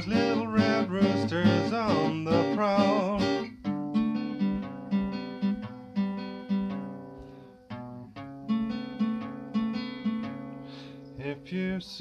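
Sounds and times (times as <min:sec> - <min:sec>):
acoustic guitar blues riff: 0:00.0 - 0:12.0.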